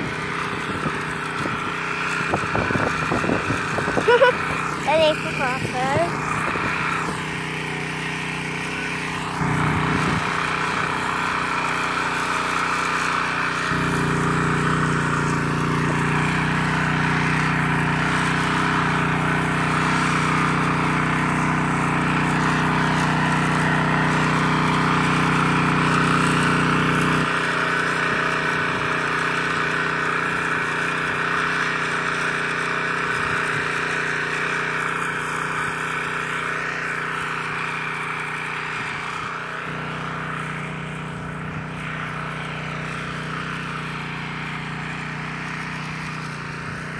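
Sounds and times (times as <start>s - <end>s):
tiller engine running: 0.0s - 46.9s.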